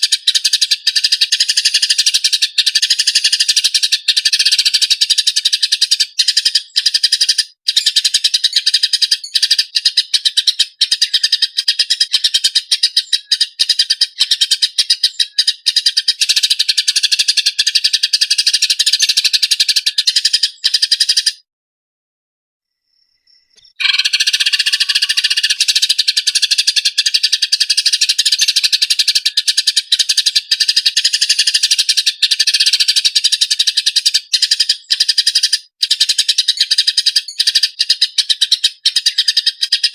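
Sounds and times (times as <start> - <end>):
songbird trilling: 0.0 - 21.4, 23.2 - 39.9.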